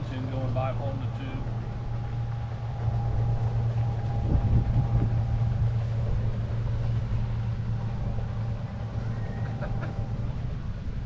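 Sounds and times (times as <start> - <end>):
outboard motor drone: 0.0 - 11.0.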